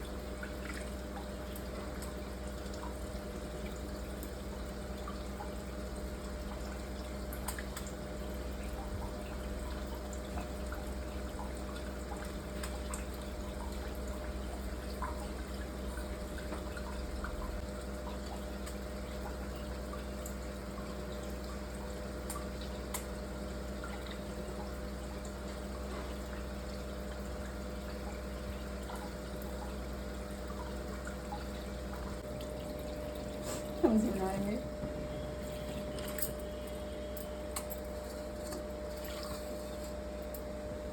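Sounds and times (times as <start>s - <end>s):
water running and dripping: 0.0s - 40.6s.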